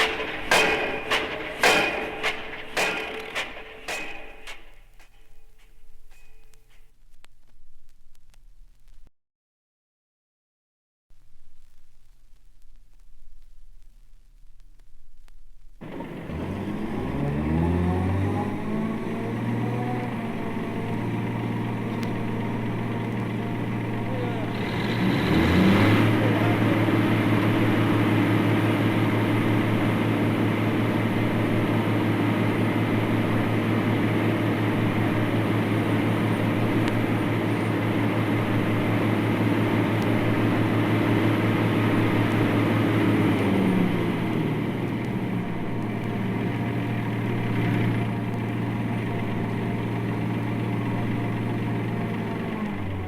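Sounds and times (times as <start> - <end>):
motor engine humming: 0.0 - 5.6, 15.8 - 53.0.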